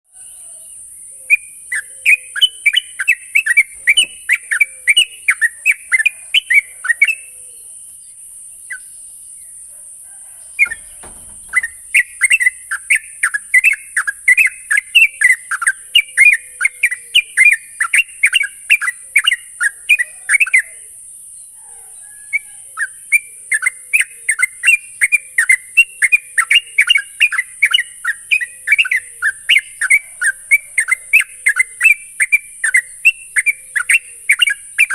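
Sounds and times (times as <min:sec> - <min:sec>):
bird chattering song: 0:00.1 - 0:09.7, 0:10.6 - 0:20.9, 0:22.4 - 0:34.9.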